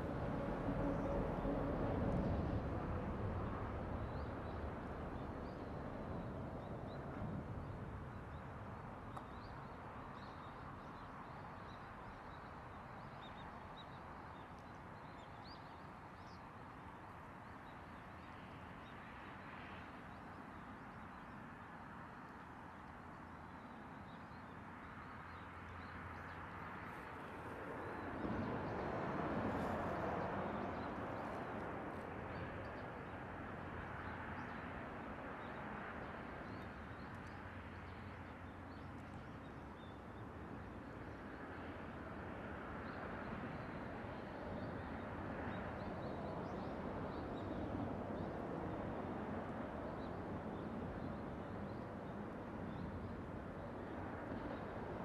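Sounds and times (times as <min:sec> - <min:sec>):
outdoor background noise: 0:00.0 - 0:55.0.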